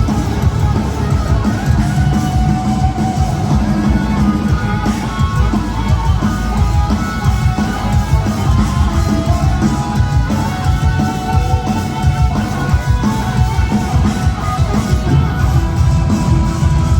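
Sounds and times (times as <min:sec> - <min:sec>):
heavy metal band playing: 0:00.0 - 0:16.9
lead electric guitar melody: 0:00.0 - 0:16.9.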